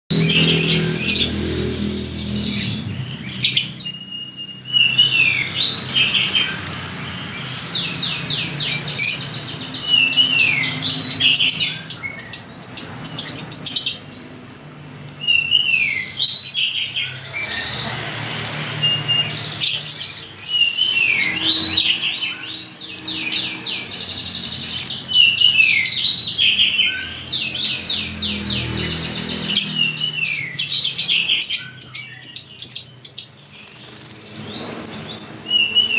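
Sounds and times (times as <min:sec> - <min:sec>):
bird chattering trills: 0:00.1 - 0:35.9.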